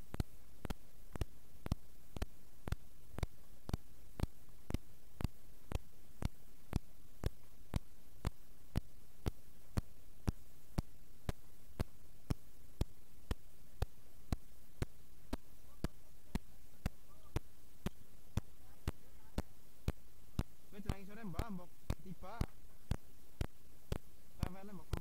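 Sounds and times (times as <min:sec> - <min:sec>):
faint steady hiss: 0:00.0 - 0:25.0
steady ticking clicks: 0:00.0 - 0:25.0.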